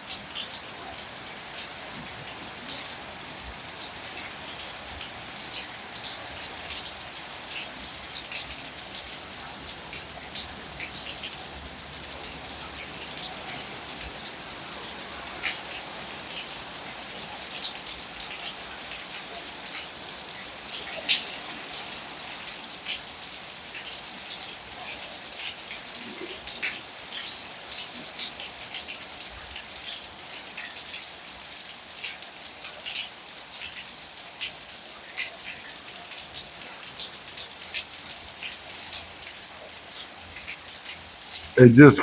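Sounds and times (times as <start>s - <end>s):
rain falling steadily: 0.0s - 42.0s.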